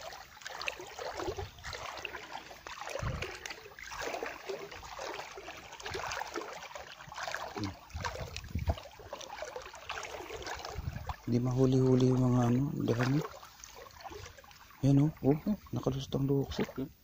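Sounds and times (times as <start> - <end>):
feet wading through water: 0.0 - 17.0.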